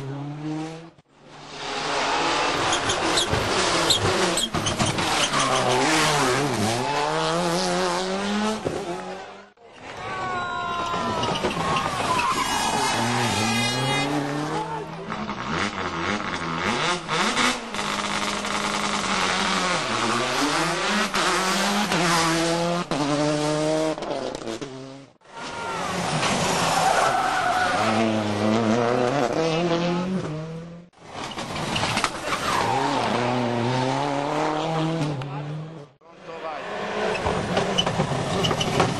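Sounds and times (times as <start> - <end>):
rally car engines revving: 0.0 - 9.6, 10.8 - 38.9.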